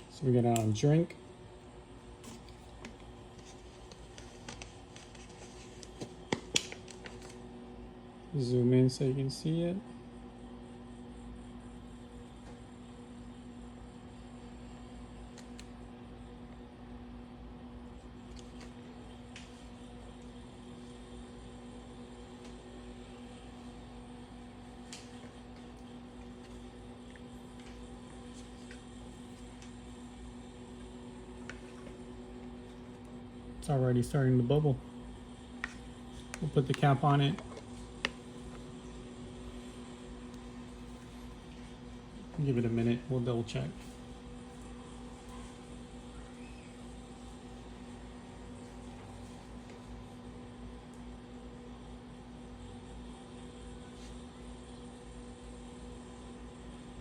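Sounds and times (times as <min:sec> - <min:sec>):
electric kettle humming: 0:00.0 - 0:57.0.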